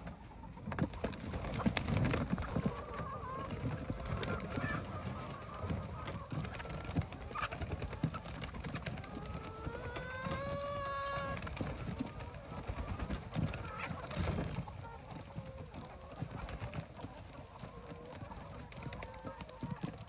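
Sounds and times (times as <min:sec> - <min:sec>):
hens clucking: 0:00.0 - 0:20.0.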